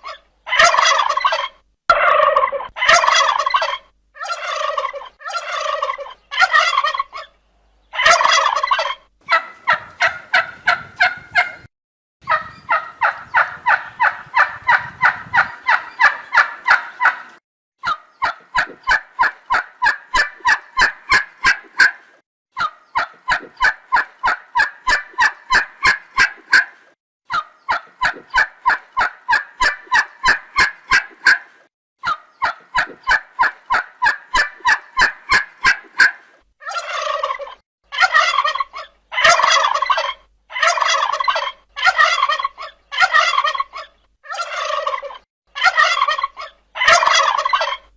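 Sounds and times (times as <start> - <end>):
turkey gobbling: 0.0 - 22.0, 22.6 - 47.9.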